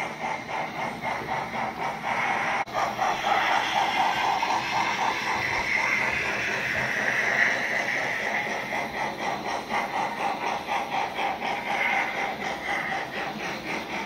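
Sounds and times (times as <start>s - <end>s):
model steam locomotive chuffs: 0.0s - 14.0s
steam hiss: 0.0s - 14.0s.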